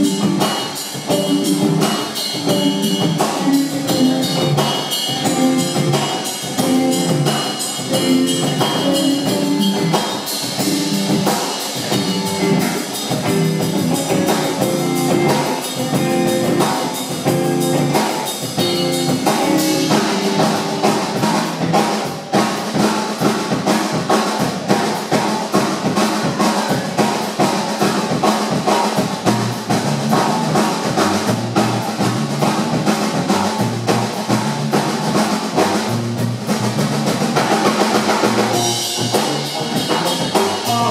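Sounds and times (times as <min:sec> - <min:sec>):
drum kit beat: 0:00.0 - 0:40.9
electric bass: 0:00.0 - 0:40.9
electric guitar: 0:00.0 - 0:40.9.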